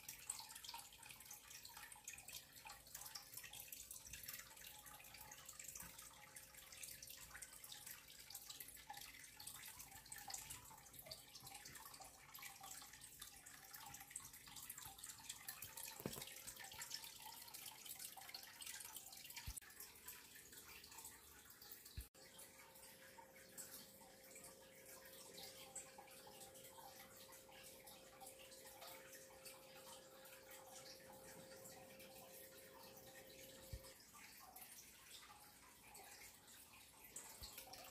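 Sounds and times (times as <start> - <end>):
faint steady hum: 0.0 - 37.9
water trickling and dripping: 0.0 - 37.9.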